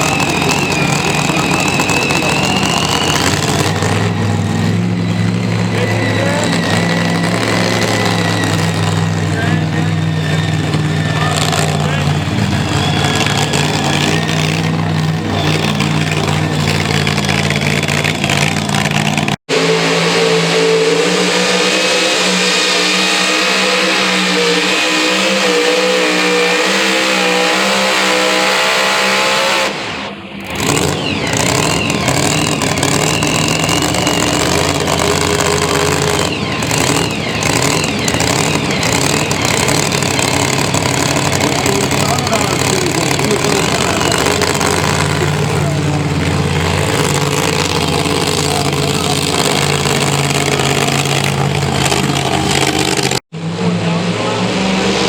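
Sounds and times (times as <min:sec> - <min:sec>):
truck engine running at high revs: 0:00.0 - 0:55.0.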